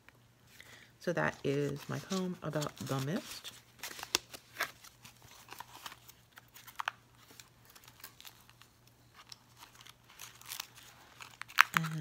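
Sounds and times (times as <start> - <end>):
paper pages rustling: 1.3 - 12.0.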